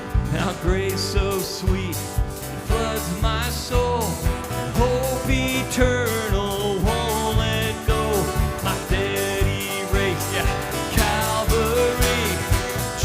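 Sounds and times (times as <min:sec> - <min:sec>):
steady drum beat: 0:00.0 - 0:13.0
worship band music: 0:00.0 - 0:13.0.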